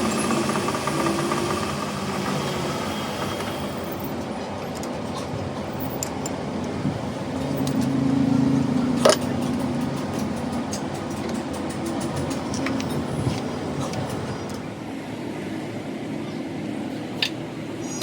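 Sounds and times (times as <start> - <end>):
truck engine running: 0.0 - 14.8.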